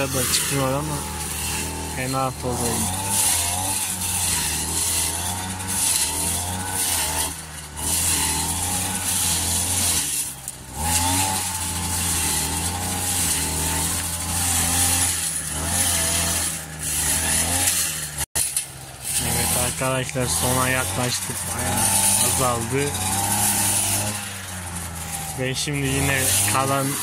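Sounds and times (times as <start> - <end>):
motor scythe engine running: 0.0 - 27.0.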